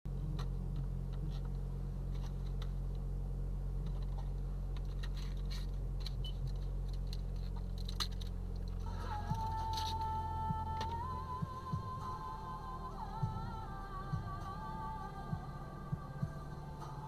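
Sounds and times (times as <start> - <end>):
car cabin rumble: 0.1 - 17.0.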